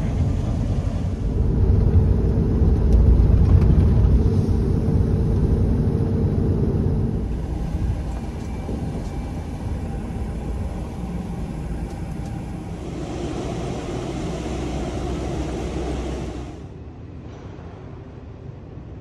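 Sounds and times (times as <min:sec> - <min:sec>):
bus engine and road rumble: 0:00.0 - 0:18.9.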